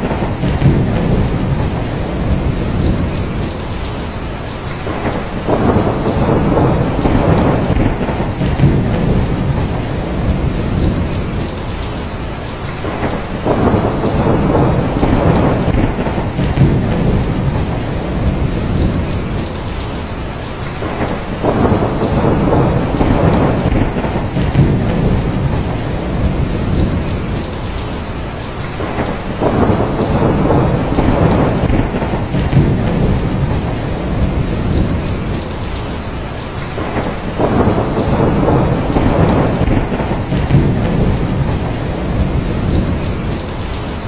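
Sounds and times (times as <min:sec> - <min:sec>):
heavy rain falling: 0:00.0 - 0:44.0
rolling thunder: 0:00.0 - 0:44.0.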